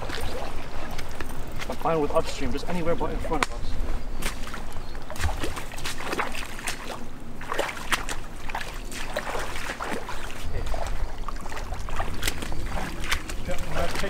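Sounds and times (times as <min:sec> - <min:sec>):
boots sloshing through water: 0:00.0 - 0:14.0.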